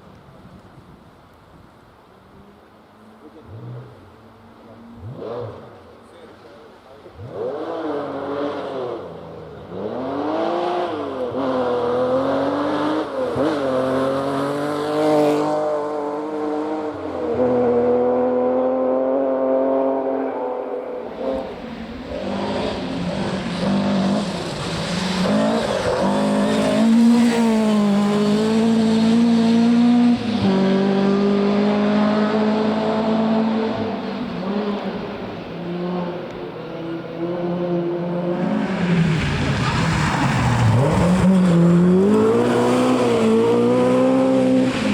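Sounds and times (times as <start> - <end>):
rally car engine revving: 7.0 - 44.9.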